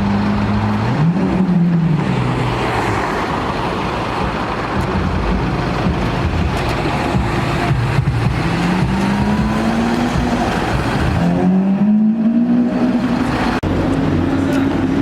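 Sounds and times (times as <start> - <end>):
car engine accelerating: 0.0 - 15.0
street traffic noise: 0.0 - 15.0.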